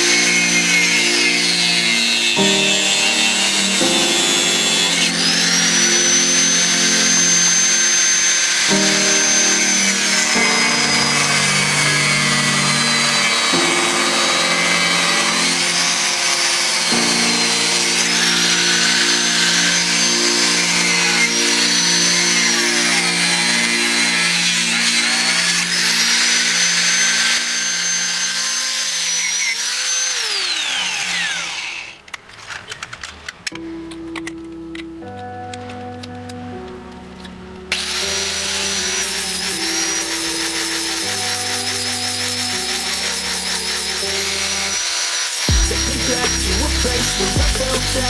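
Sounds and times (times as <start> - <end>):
background music with held chords: 0.0 - 29.0, 33.5 - 44.8, 45.4 - 48.0
jigsaw motor whining: 0.0 - 34.3, 37.7 - 48.0.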